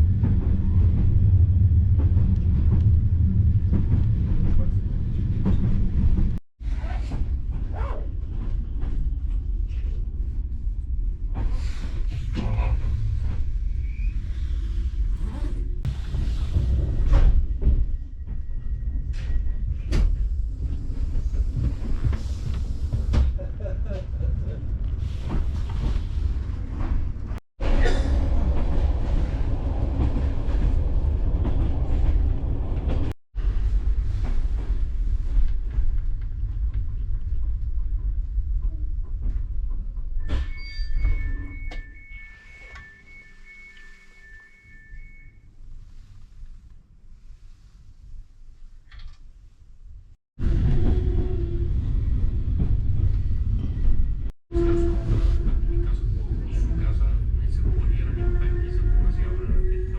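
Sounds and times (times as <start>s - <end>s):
train rumbling: 0.0s - 48.6s, 50.4s - 59.9s.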